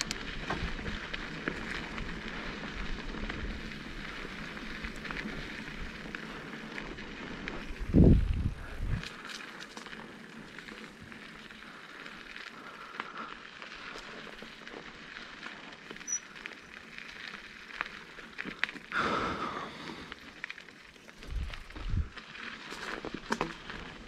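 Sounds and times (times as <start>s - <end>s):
bike tyres crunching on dirt: 0.0s - 24.0s.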